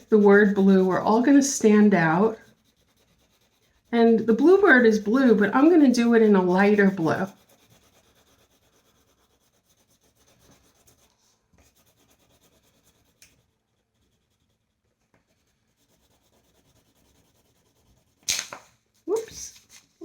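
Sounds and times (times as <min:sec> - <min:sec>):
colouring strokes on paper: 0:00.0 - 0:18.3.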